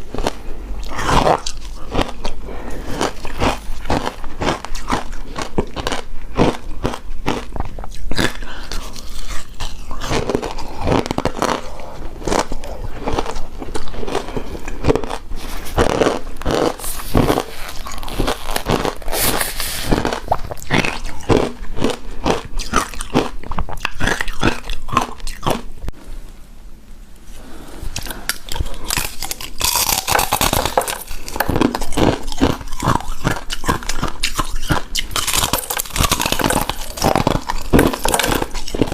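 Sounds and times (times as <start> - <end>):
crunching and chewing ice: 0.0 - 25.8, 28.0 - 38.9.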